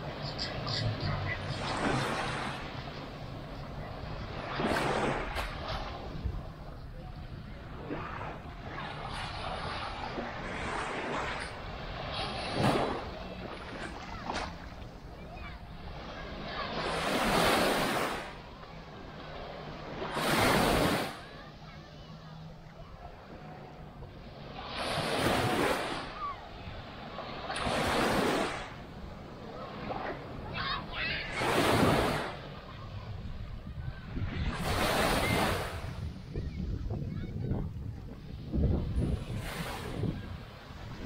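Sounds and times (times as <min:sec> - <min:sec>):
wind on microphone: 0:00.0 - 0:18.4, 0:23.9 - 0:41.0
small waves washing on sand: 0:00.0 - 0:41.0.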